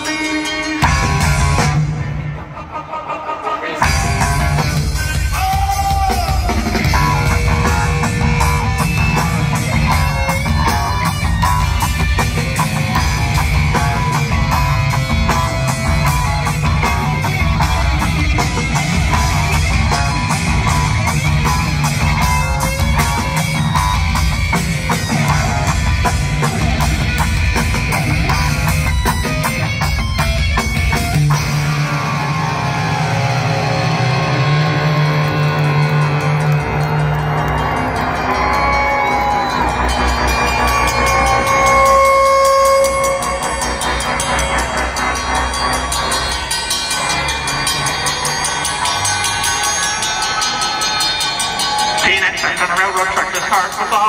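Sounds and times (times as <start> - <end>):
live rock band playing: 0.0 - 2.8, 3.8 - 54.0.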